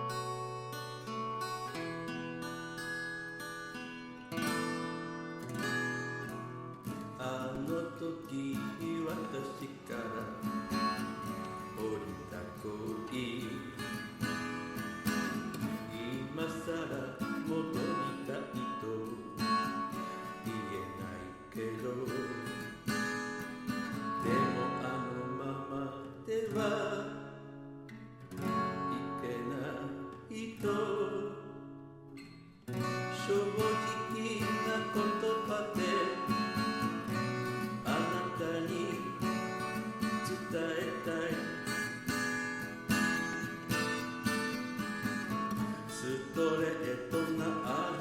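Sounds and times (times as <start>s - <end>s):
song led by acoustic guitar: 0.0s - 48.0s.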